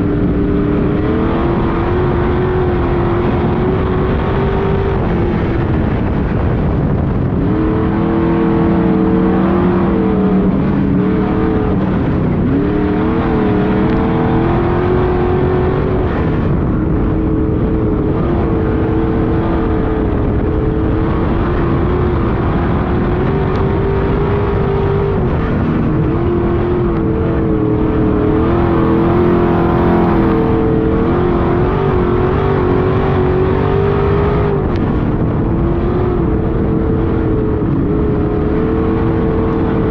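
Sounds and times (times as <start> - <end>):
other car engines: 0.0 - 39.9
race car engine running hard: 0.0 - 39.9.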